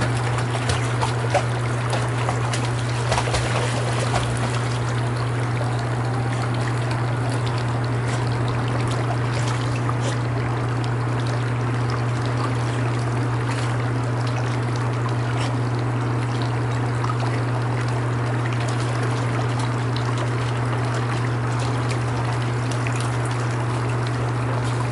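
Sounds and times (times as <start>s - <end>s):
steady low hum: 0.0s - 24.9s
water splashing and trickling: 0.0s - 24.9s.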